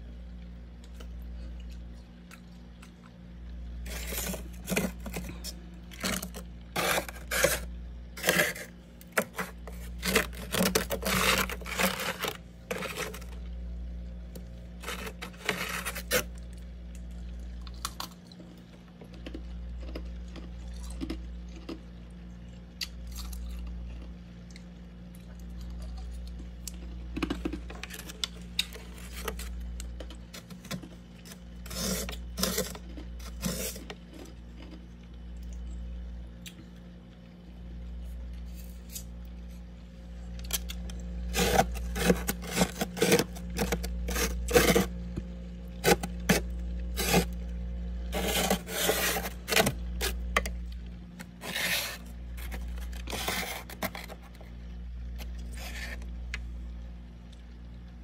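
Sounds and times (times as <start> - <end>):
steady low hum: 0.0 - 58.0
freezer frost crunching and scraping: 0.8 - 21.9, 25.2 - 35.5, 37.8 - 56.7.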